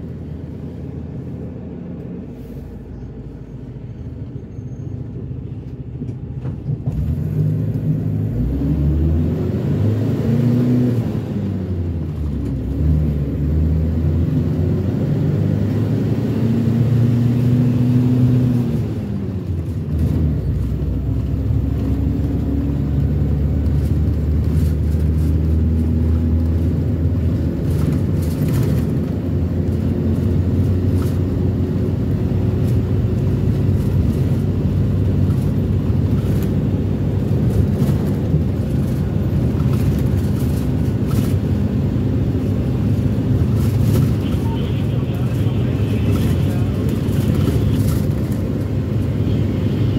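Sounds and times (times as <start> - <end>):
minibus engine drone: 0.0 - 49.9.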